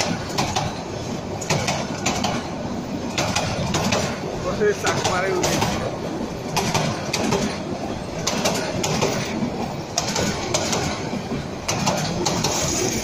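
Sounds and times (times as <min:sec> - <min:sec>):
train coaches rumbling past: 0:00.0 - 0:13.0
wheels clacking over rail joints: 0:00.0 - 0:13.0.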